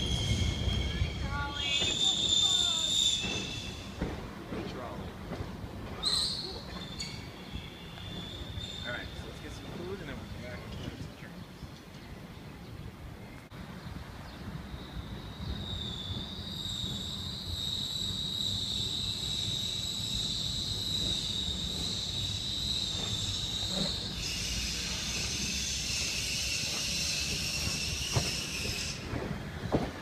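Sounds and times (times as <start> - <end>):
trolley wheels squealing on rails: 0.0 - 11.0, 14.5 - 30.0.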